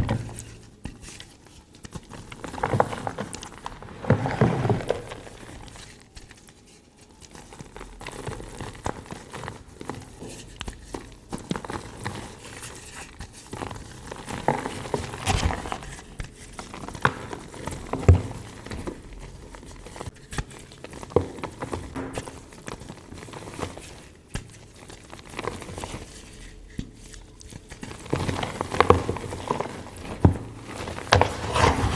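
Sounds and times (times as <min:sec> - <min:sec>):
chalk crunching and crumbling: 0:00.0 - 0:31.9.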